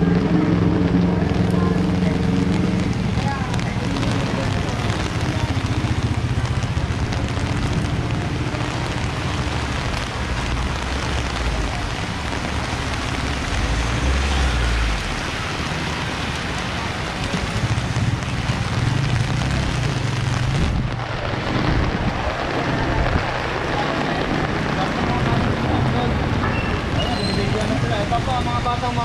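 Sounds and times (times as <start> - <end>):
heavy rain on wet street: 0.0 - 29.0
passing traffic rumble: 0.0 - 29.0.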